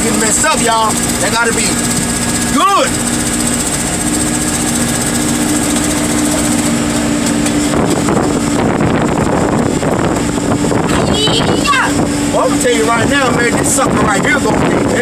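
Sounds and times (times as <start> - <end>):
heavy machinery engine humming: 0.0 - 15.0.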